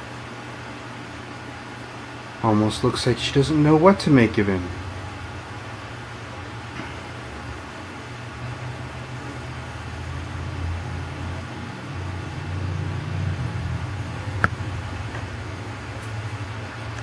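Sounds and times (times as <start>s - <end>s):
aquarium pumps humming: 0.0s - 17.0s.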